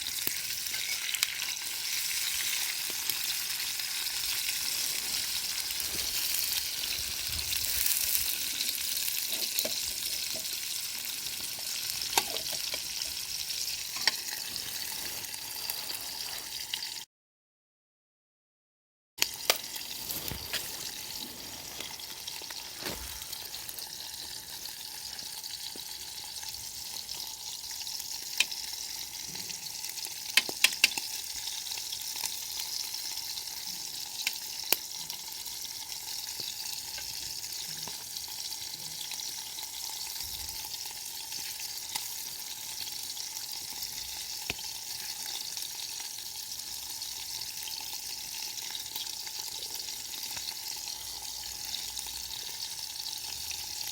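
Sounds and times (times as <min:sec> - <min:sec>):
food sizzling over campfire: 0:00.0 - 0:17.1, 0:19.2 - 0:53.9.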